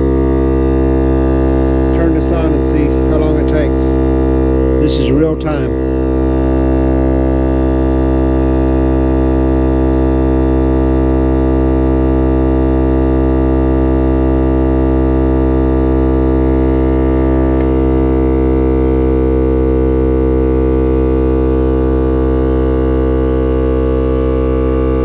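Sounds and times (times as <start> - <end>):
air compressor buzzing hum: 0.0 - 25.0.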